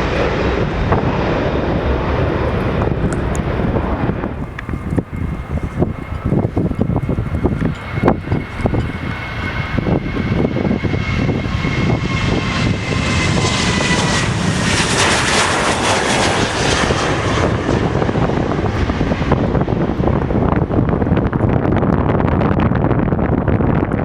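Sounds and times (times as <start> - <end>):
jet airliner passing by: 0.0 - 24.0.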